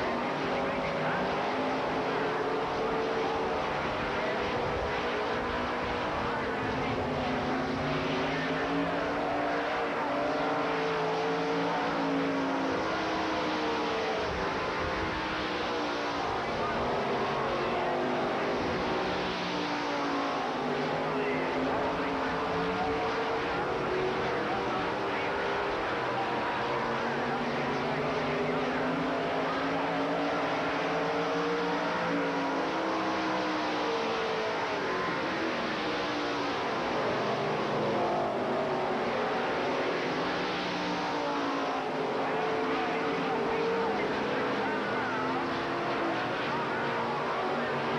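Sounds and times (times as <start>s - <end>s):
race car engines droning: 0.0s - 47.9s.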